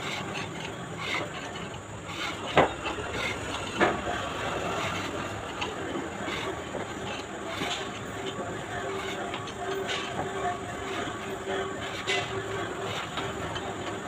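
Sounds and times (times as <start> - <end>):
reamer scraping metal: 0.0 - 14.0.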